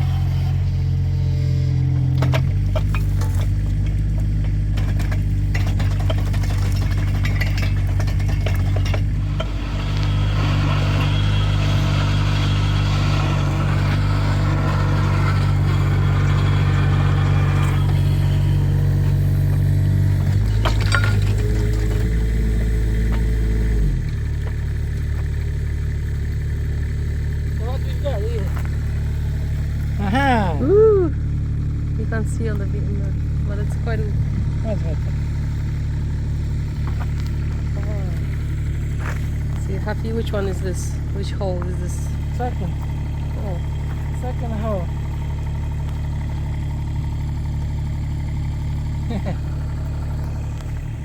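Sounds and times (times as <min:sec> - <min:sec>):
auger grinding into ground: 0:00.0 - 0:51.0
diesel engine under load: 0:00.0 - 0:51.0.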